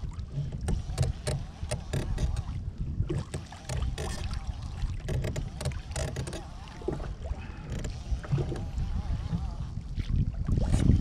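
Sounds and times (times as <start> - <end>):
water splashing against kayak hull: 0.0 - 11.0
wind buffeting microphone: 0.0 - 11.0.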